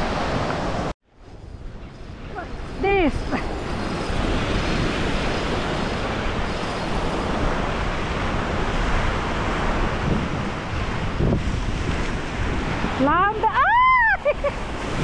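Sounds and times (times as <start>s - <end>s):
small surf on sandy beach: 0.0s - 15.0s
wind noise on microphone: 0.0s - 15.0s.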